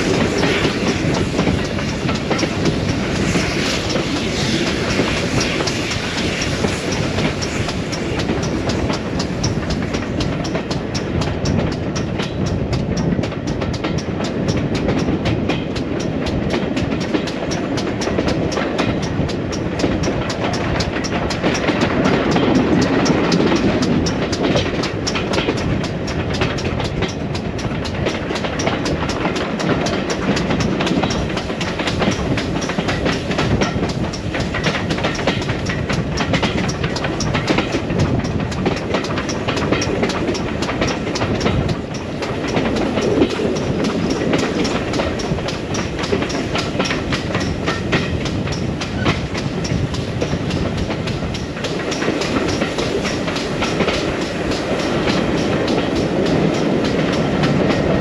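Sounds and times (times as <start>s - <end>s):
clickety-clack of wheels: 0.0s - 58.0s
train wheels rumbling on rails: 0.0s - 58.0s.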